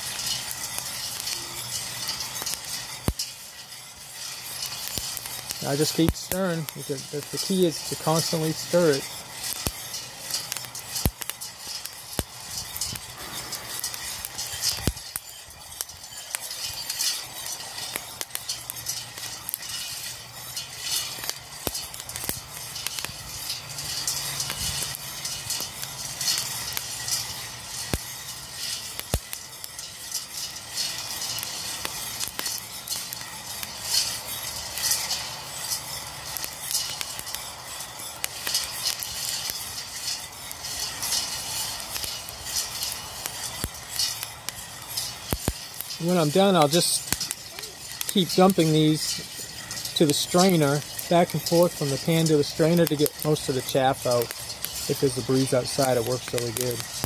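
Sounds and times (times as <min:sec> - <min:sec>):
coffee beans cracking: 0:00.0 - 0:57.0
whisk stirring beans in metal pan: 0:00.0 - 0:57.0.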